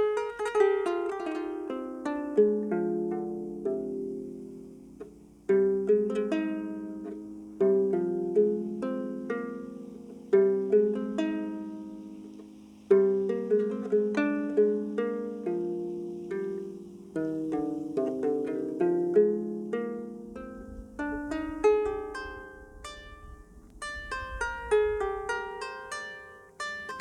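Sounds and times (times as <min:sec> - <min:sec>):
harp plucked notes and chords: 0:00.0 - 0:27.0.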